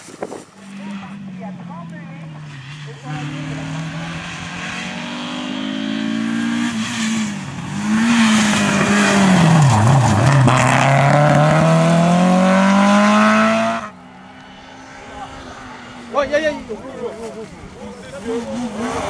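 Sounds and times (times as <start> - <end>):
rally car engine revving: 0.6 - 19.0.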